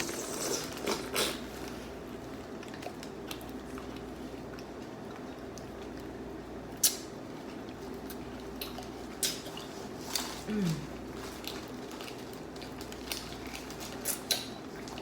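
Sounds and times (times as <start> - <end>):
person chewing wet food: 0.0 - 15.0.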